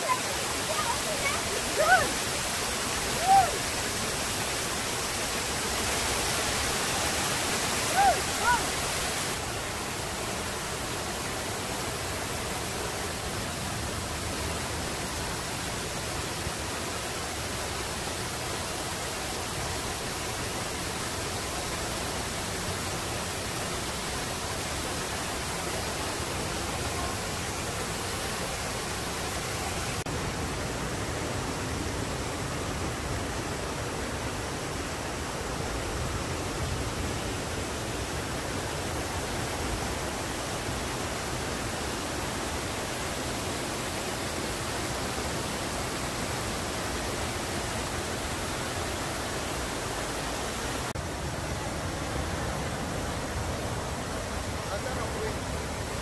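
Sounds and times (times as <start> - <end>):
waterfall spilling over rocks: 0.0 - 56.0.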